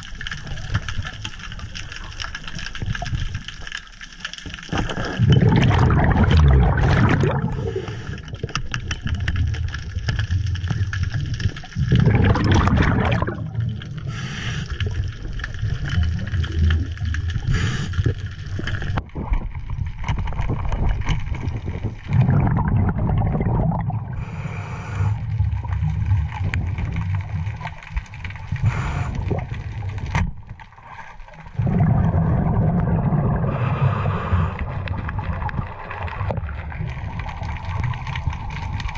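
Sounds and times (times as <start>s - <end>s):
exhaled bubbles rumbling underwater: 0.0s - 38.9s.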